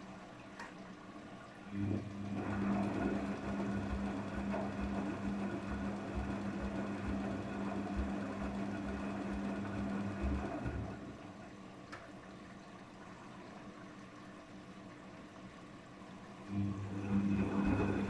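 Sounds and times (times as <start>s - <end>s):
water sloshing in drum: 0.0s - 15.1s, 17.0s - 18.0s
washing machine motor hum: 0.0s - 18.0s.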